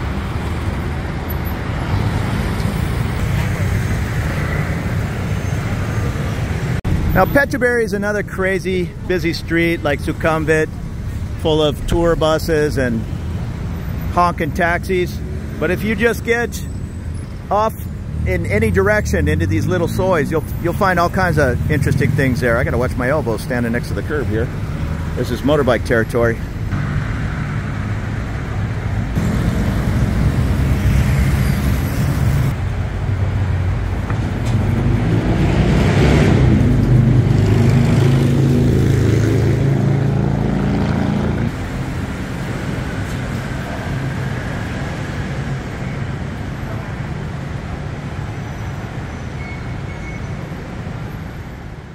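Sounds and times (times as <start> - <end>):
city street traffic: 0.0 - 51.9.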